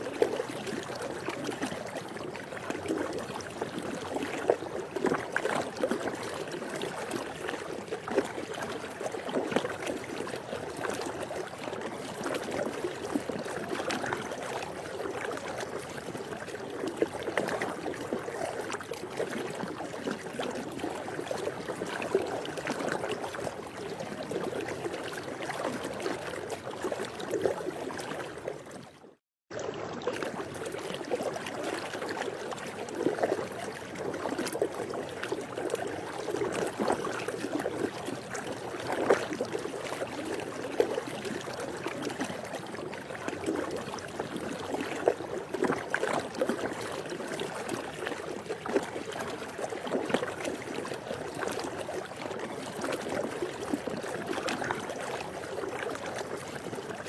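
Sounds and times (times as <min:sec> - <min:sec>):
swimming pool water noise: 0:00.0 - 0:57.0.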